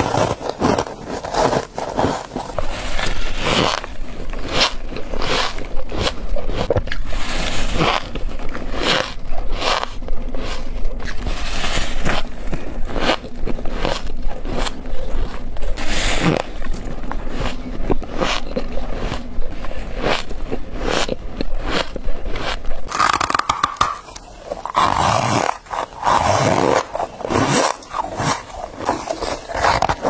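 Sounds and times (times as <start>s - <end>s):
ice crunching being chewed: 0.0s - 30.0s.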